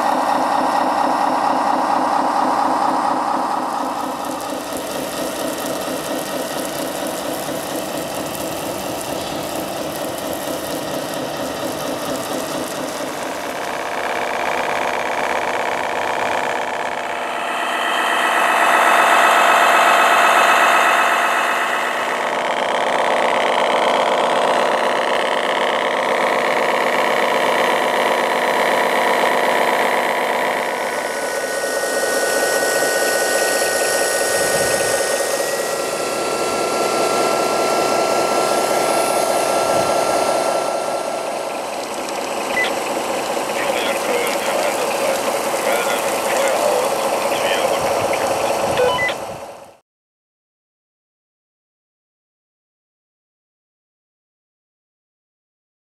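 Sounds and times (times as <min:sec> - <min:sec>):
engine idling and revving: 0:00.0 - 0:49.8
steady high whine: 0:00.0 - 0:49.8.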